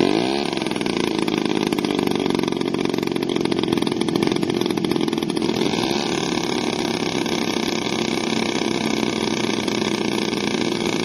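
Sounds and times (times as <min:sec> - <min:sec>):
small two-stroke engine buzzing: 0:00.0 - 0:11.0.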